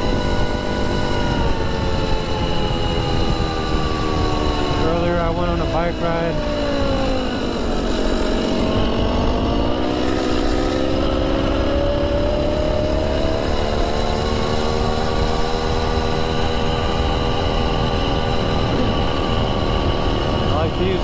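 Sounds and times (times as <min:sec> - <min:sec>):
small two-stroke engine running: 0:00.0 - 0:21.0
wind rumbling on microphone: 0:00.0 - 0:21.0.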